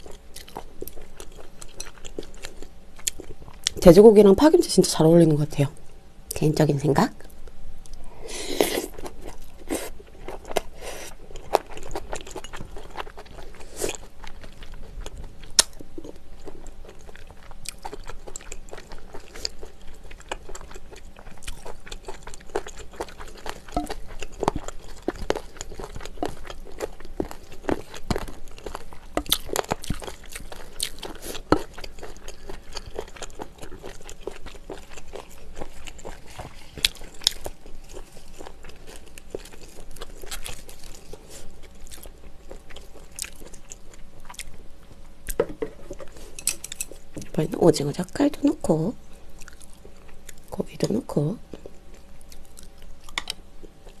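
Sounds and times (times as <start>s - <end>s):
close chewing and crunching: 0.0s - 3.9s, 7.3s - 54.0s.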